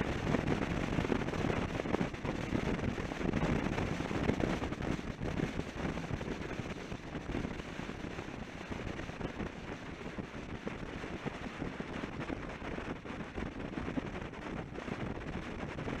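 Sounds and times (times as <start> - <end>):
motorcycle running noise: 0.0 - 16.0
wind buffeting microphone: 0.0 - 16.0.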